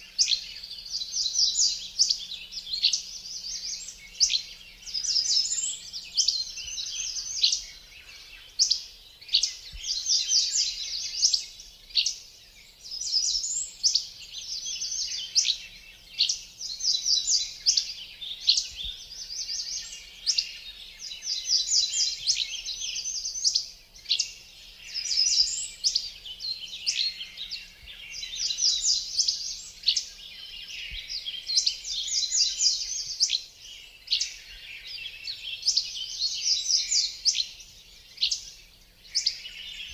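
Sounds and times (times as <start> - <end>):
birds trilling and chirping: 0.0 - 39.9.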